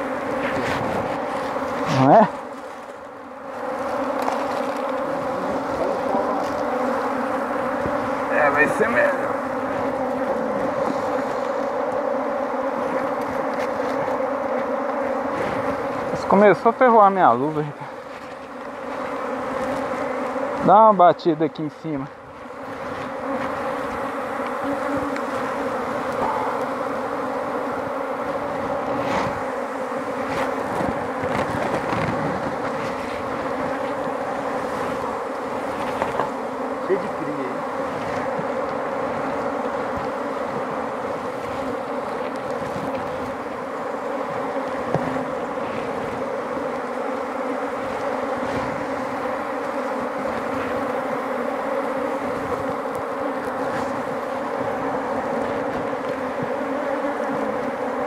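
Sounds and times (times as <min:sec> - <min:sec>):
bees buzzing loudly: 0:00.0 - 0:58.0.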